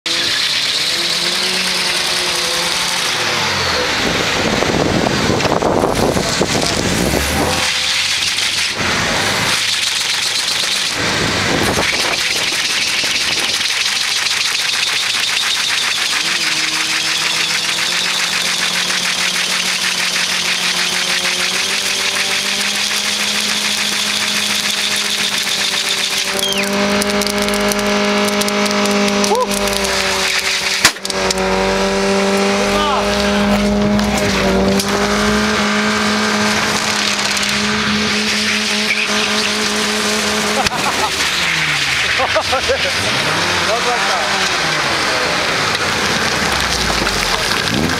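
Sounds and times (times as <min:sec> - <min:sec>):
car engine at high revs: 0:00.0 - 0:47.9
tyre squealing on concrete: 0:00.1 - 0:04.0, 0:05.9 - 0:47.9.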